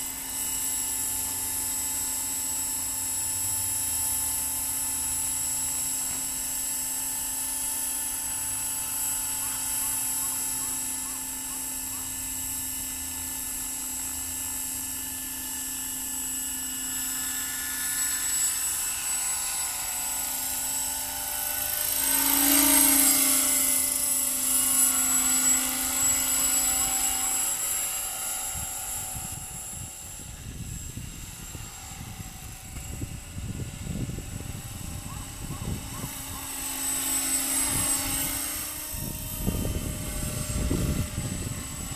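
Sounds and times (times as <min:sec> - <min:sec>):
model helicopter rotor whine: 0:00.0 - 0:41.9.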